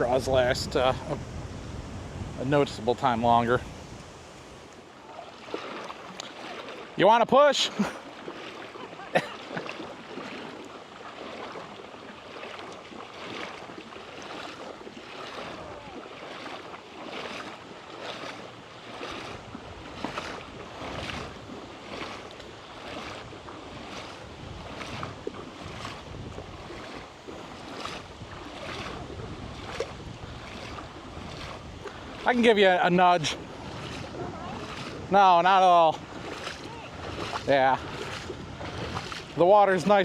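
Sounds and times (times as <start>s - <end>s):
river water splashing: 0.0s - 40.0s.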